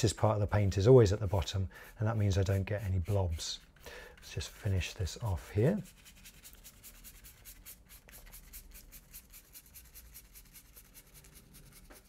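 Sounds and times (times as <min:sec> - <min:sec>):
paintbrush brushing on paper: 0:00.0 - 0:12.0.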